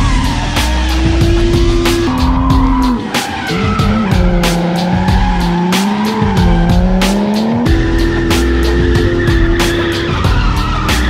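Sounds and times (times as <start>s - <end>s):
car engine revving high: 0.0s - 11.0s
tyres squealing: 0.0s - 11.0s.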